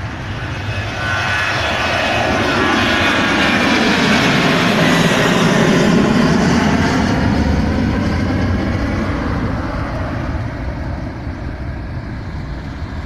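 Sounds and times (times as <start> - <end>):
jet engines climbing: 0.0 - 13.0.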